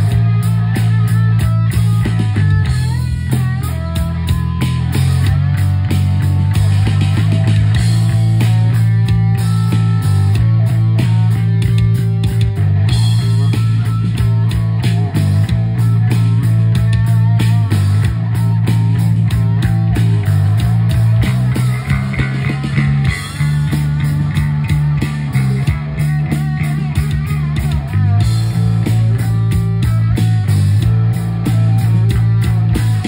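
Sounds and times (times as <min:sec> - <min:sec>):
bass: 0:00.0 - 0:33.0
drums: 0:00.0 - 0:33.0
slide electric guitar: 0:00.0 - 0:33.0.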